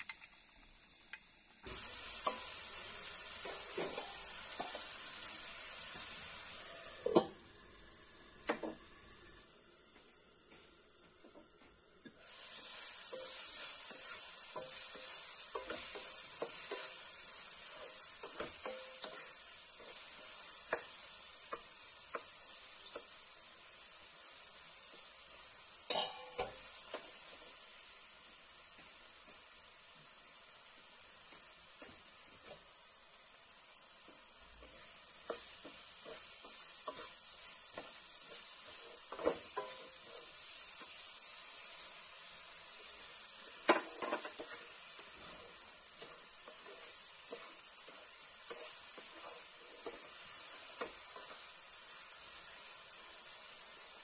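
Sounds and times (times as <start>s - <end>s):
fruit sizzling in a pan: 0.0s - 54.0s.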